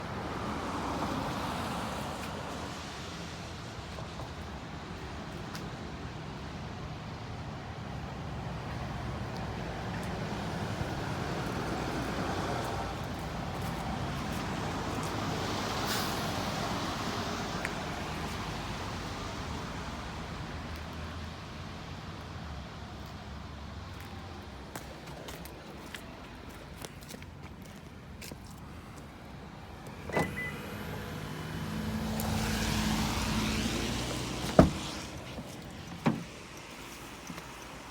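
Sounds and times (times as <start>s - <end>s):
road traffic passing: 0.0s - 37.9s.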